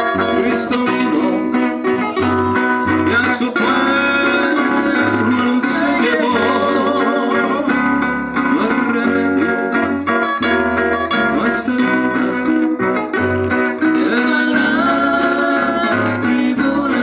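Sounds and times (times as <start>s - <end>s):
acoustic guitars playing: 0.0s - 17.0s.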